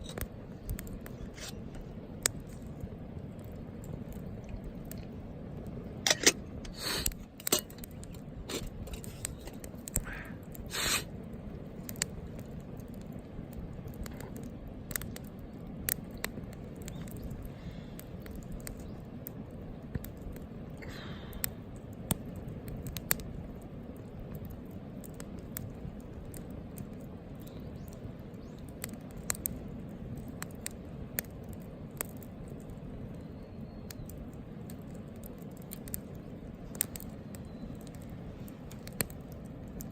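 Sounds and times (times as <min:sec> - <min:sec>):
burning wood hissing: 0:00.0 - 0:39.9
wood campfire crackling: 0:00.0 - 0:39.9.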